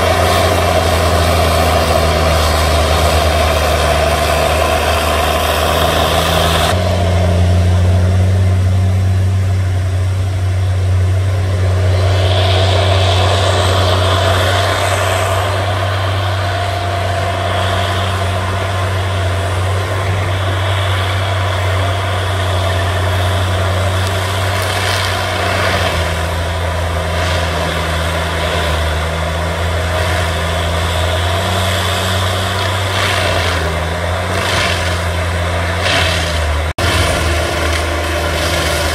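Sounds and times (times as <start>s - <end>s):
diesel engine drone: 0.0s - 38.9s
mulching head whine: 0.0s - 38.9s.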